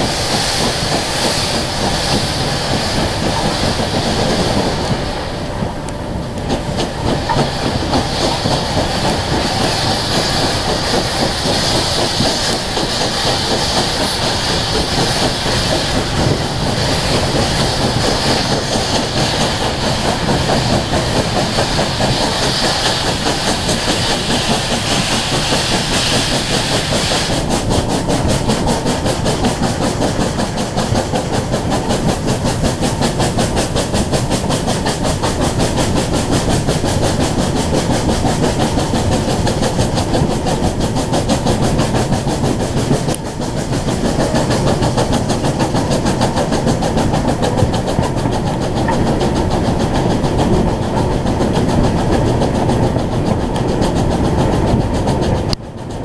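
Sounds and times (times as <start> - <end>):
steam hiss: 0.0 - 56.0
train wheels clattering on rails: 0.0 - 56.0.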